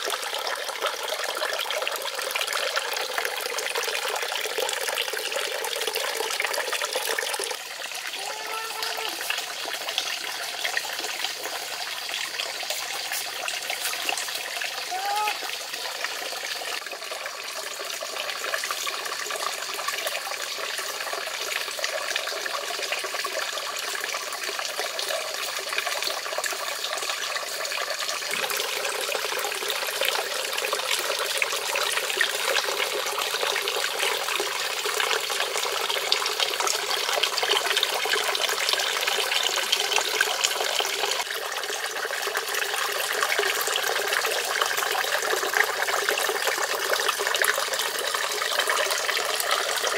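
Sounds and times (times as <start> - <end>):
fountain water trickling into pond: 0.0 - 49.9.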